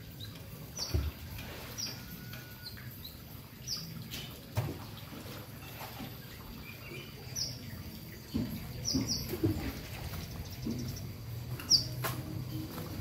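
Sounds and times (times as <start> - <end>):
small birds chirping: 0.0 - 4.3, 5.6 - 13.0.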